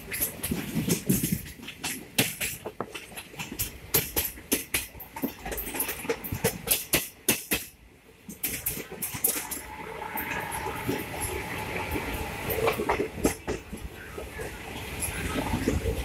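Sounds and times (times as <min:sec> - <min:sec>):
train rumble: 0:00.0 - 0:16.0
train wheels clattering over rail joints: 0:00.0 - 0:16.0.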